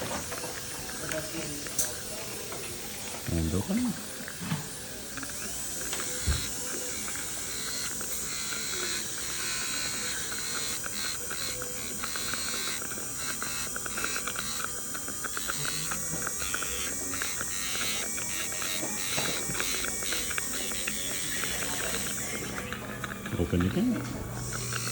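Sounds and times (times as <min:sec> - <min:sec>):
dental drill buzzing: 0:00.0 - 0:24.9
scratchy contacts on tooth: 0:04.3 - 0:24.9.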